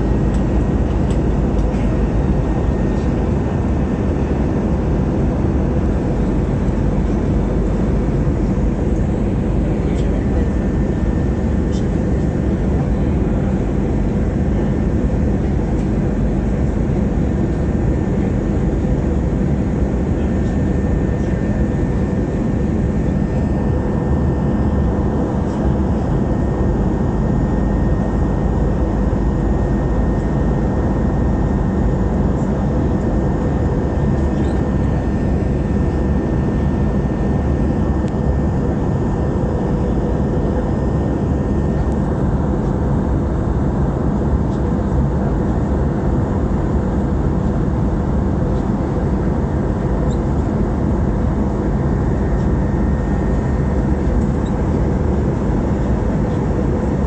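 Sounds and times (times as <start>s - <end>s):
airliner engine and airflow rumble: 0.0s - 57.0s
faint constant whine: 0.0s - 57.0s.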